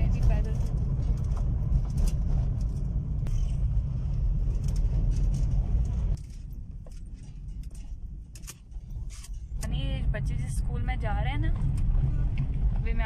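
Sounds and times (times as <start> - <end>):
car driving on rough dirt road: 0.0 - 13.0.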